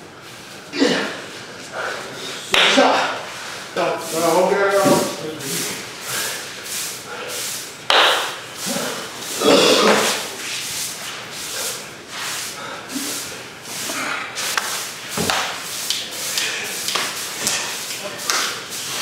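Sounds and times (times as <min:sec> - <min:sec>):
straw brooms sweeping sand: 0:03.2 - 0:19.0.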